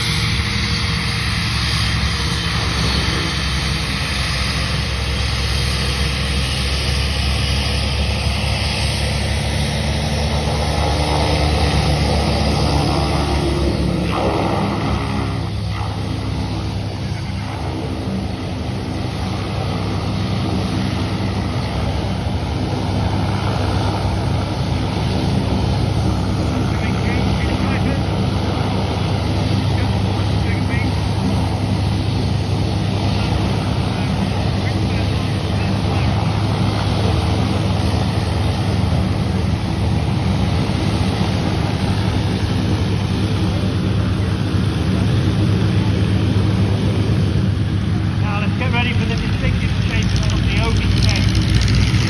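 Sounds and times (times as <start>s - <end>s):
propeller aircraft engine droning: 0.0s - 52.0s.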